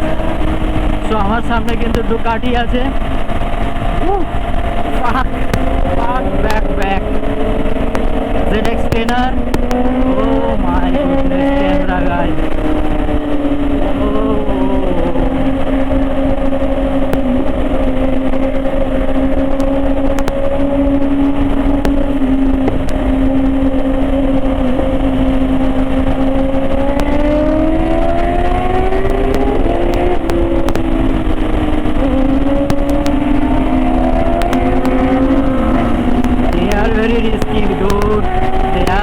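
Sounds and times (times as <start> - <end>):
motorcycle engine accelerating: 0.0 - 39.0
wind on microphone: 0.0 - 39.0.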